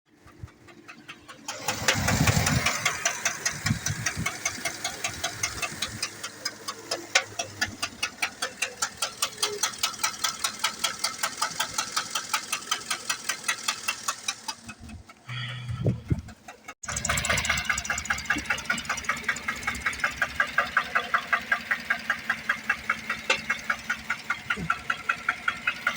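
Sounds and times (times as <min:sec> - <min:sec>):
car engine idling: 0:00.1 - 0:25.9
engine ticking knock: 0:00.1 - 0:25.9.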